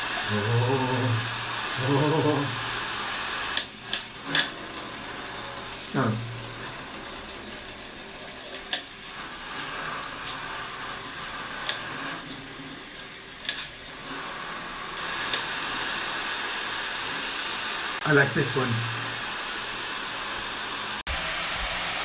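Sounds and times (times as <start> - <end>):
shower spraying water: 0.0 - 22.0.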